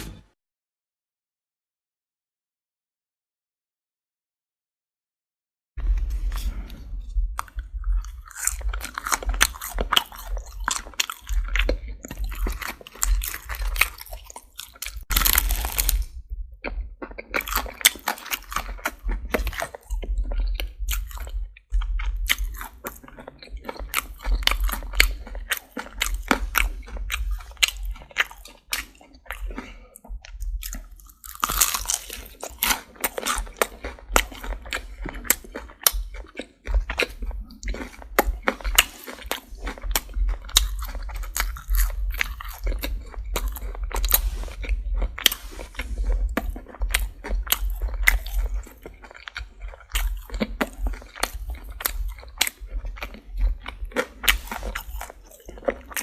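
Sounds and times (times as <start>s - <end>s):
crispy fried chicken crunching: 7.4s - 56.0s.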